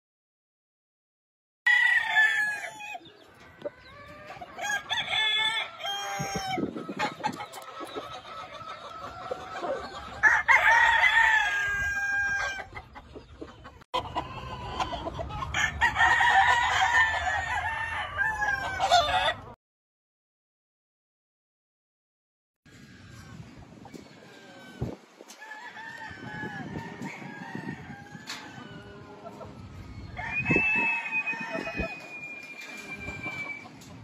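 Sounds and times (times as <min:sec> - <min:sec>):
roosters crowing: 0:01.7 - 0:13.0, 0:14.0 - 0:19.6, 0:22.7 - 0:34.0
chickens clucking: 0:02.2 - 0:17.7, 0:18.3 - 0:19.6, 0:22.7 - 0:34.0.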